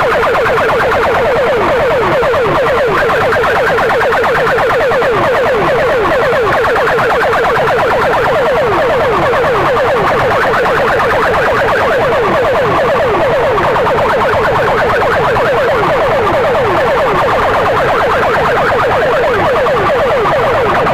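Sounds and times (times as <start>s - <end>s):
electronic siren effect: 0.0s - 20.9s.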